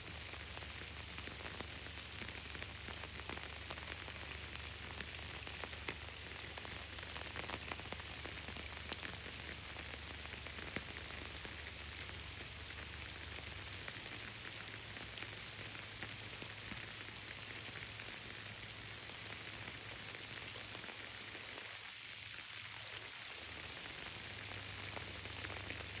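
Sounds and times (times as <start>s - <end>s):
rain hissing: 0.0s - 26.0s
raindrops ticking: 0.0s - 26.0s.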